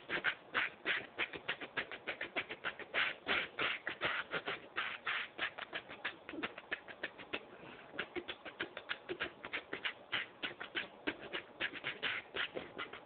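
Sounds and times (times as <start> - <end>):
maracas shaken: 0.0 - 13.0.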